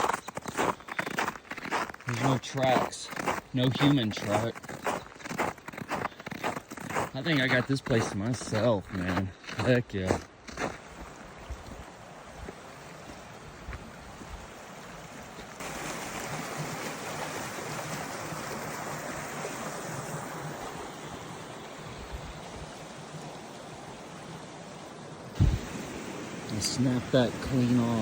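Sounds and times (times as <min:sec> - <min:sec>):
mountain stream rushing: 0:00.0 - 0:28.0.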